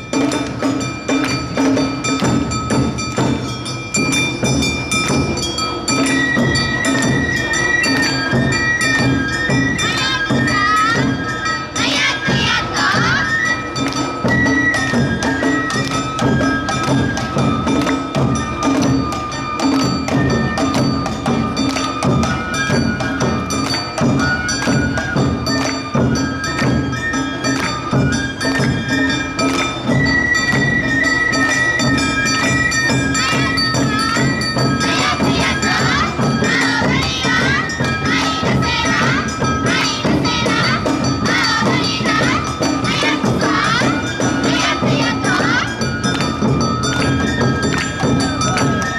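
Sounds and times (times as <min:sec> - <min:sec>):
bamboo flutes melody: 0:00.0 - 0:48.9
drums beating: 0:00.0 - 0:48.9
hand gongs ringing: 0:00.0 - 0:48.9.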